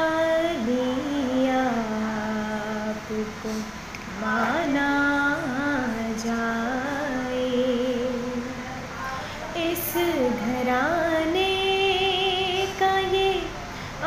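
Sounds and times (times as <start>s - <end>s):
woman singing solo: 0.0s - 14.0s.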